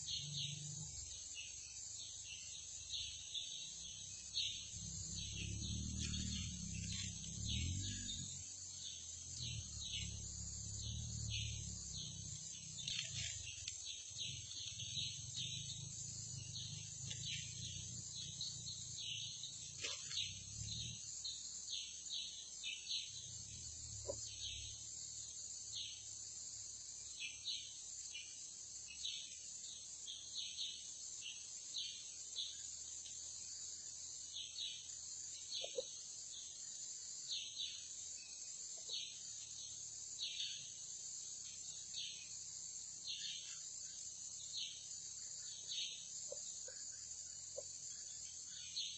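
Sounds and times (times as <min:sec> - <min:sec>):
insect chirps: 0:00.0 - 0:48.9
insects droning: 0:00.0 - 0:48.9.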